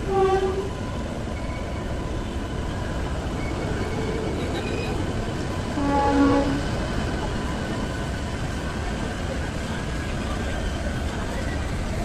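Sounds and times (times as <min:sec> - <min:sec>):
crowd and station noise: 0:00.0 - 0:12.0.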